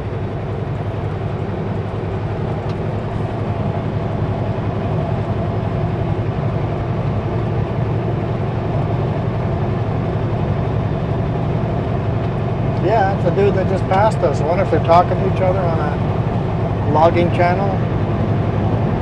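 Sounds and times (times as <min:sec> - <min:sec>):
road noise: 0:00.0 - 0:19.0
truck diesel engine droning: 0:00.0 - 0:19.0.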